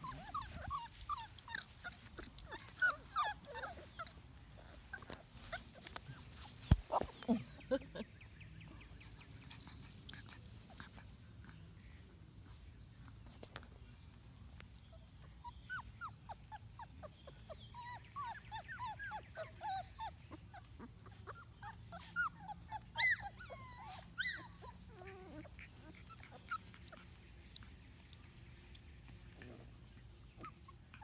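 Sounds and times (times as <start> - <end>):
puppies whimpering and squealing: 0.0 - 12.6, 15.0 - 31.0.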